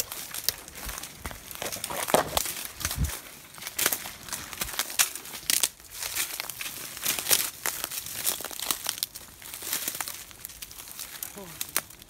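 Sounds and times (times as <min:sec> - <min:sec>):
brush crackling and snapping: 0:00.0 - 0:12.0.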